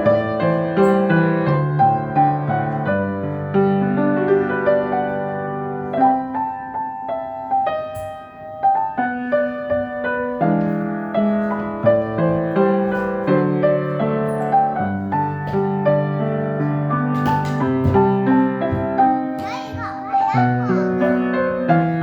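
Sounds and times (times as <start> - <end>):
gentle solo piano: 0.0 - 22.0.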